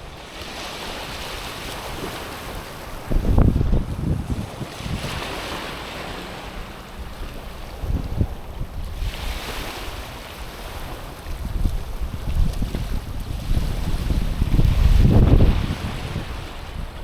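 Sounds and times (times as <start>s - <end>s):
waves washing over pebbles: 0.0s - 17.0s
wind buffeting microphone: 0.0s - 17.0s.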